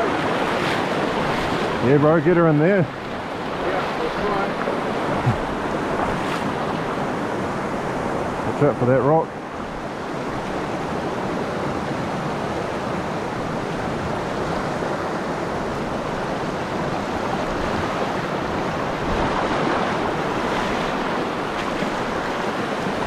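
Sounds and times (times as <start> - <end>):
stream rushing over boulders: 0.0 - 23.0.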